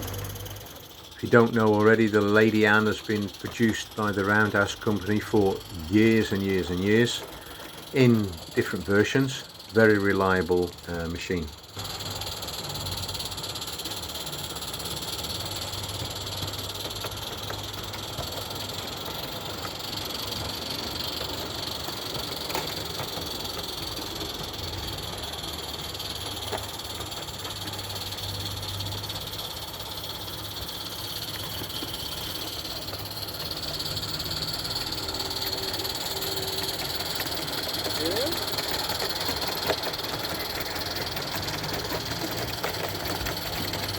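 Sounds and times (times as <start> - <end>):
steam locomotive hiss: 0.0 - 43.9.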